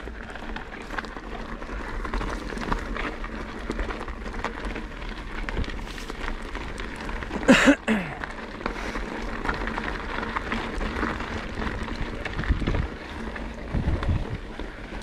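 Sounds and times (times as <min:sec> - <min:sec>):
bike clicks and knocks: 0:00.0 - 0:15.0
bike tyres crunching on dirt: 0:00.0 - 0:15.0.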